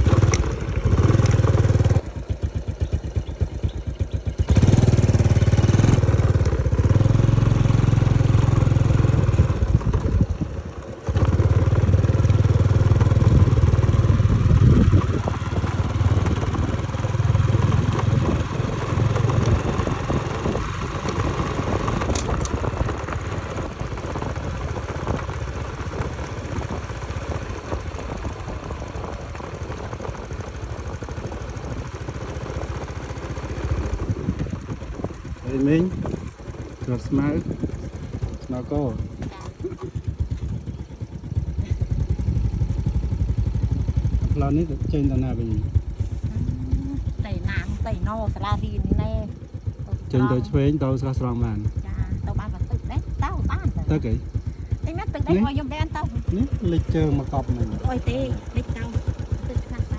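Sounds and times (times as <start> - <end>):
motorbike engine running: 0.0 - 59.9.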